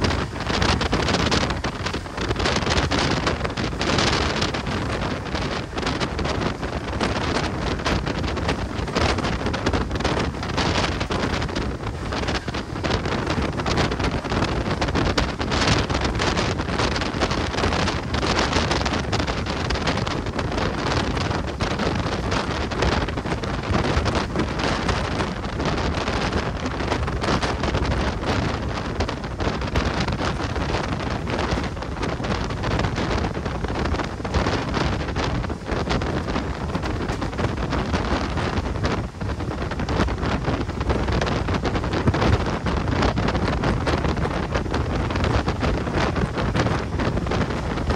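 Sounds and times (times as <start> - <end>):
moving train running noise: 0.0 - 47.9
wind buffeting the microphone: 0.0 - 47.9.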